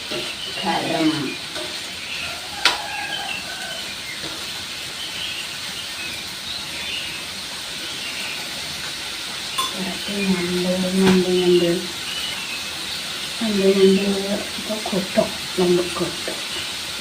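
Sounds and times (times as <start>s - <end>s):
food frying in a pan: 0.0s - 17.0s.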